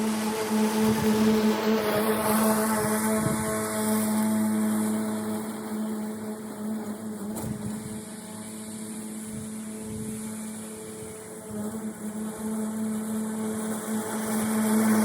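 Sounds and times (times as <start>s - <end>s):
lawn equipment motor running: 0.0s - 15.0s.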